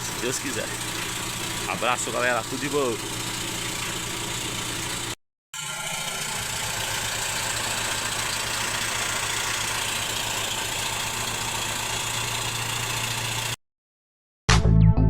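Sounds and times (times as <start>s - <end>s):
engine idling: 0.0s - 13.6s.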